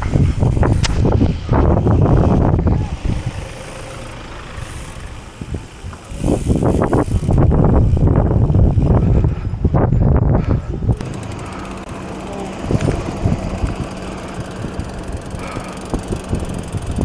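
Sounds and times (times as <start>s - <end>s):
bike riding over dirt track: 0.0s - 17.0s
wind buffeting microphone: 0.0s - 17.0s.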